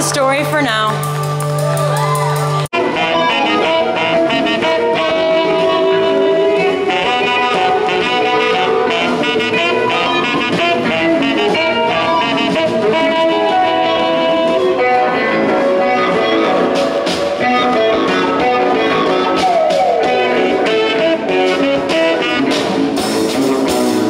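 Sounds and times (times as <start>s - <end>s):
bass: 0.0s - 24.0s
electric guitar: 0.0s - 24.0s
saxophone: 1.3s - 24.0s.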